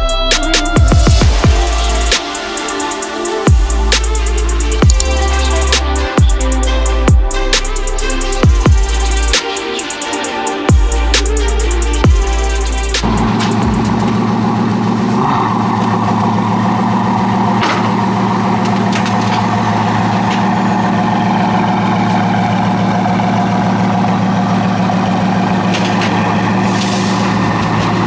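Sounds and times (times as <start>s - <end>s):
car engine droning: 0.0s - 28.0s.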